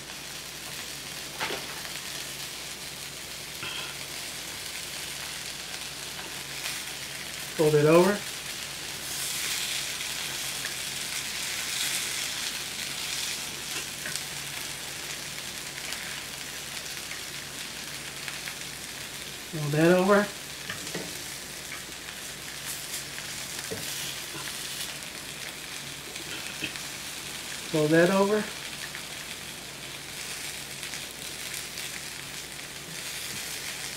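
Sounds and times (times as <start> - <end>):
tacos sizzling on a griddle: 0.0 - 33.9.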